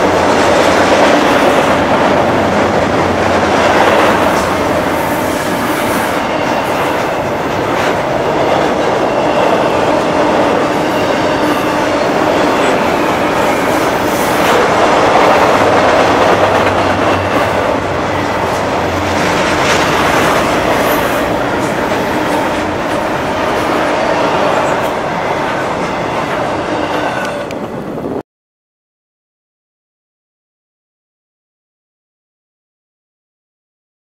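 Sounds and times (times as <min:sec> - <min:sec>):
train wheels rumbling on rails: 0:00.0 - 0:28.2.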